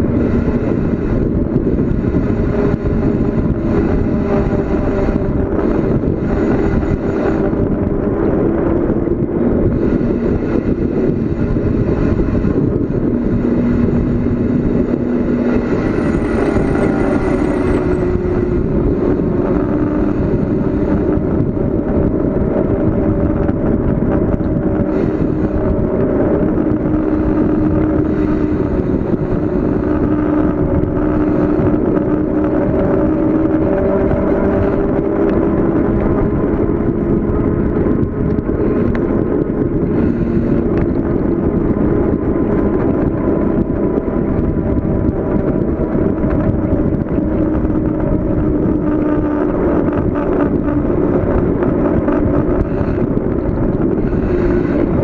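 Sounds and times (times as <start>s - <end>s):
bicycle tyre hum: 0.0s - 55.0s
wind rushing on microphone: 0.0s - 55.0s.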